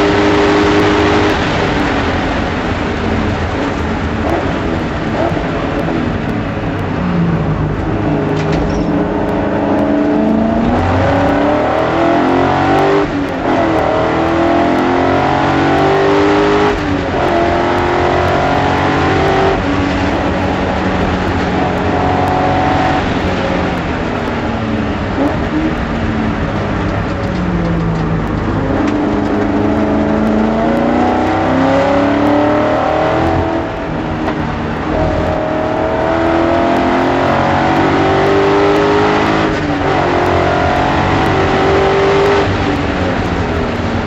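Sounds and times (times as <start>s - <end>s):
race car engine accelerating: 0.0s - 44.0s.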